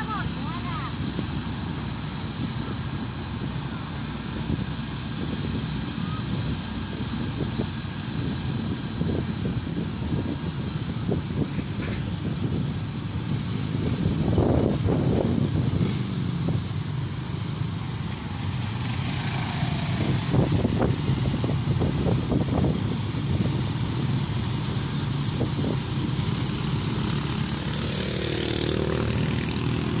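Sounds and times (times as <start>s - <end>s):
motorcycle engines rumbling: 0.0s - 30.0s
road and wind noise: 0.0s - 30.0s.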